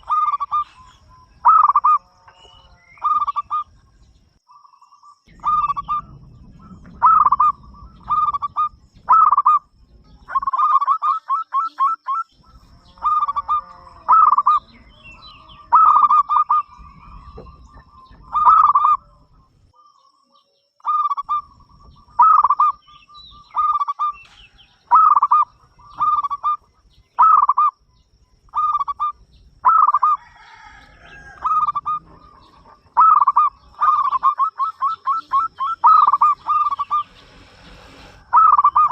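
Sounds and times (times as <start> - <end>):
dove cooing: 0.0 - 4.0, 5.3 - 19.5, 20.8 - 27.9, 28.5 - 38.9.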